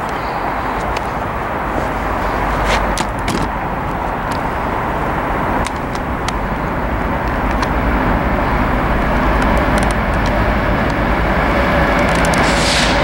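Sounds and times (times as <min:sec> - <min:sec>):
diesel locomotive rumble: 0:00.0 - 0:13.0.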